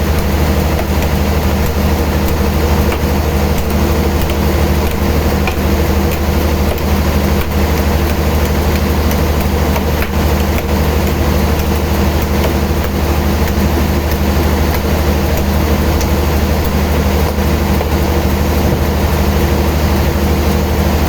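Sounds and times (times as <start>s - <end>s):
sawmill machinery humming: 0.0s - 21.0s.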